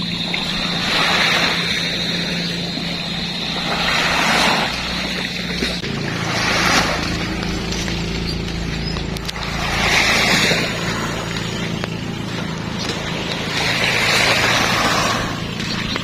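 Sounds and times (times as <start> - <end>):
engine running: 0.0 - 16.0
waves washing in: 0.0 - 16.0.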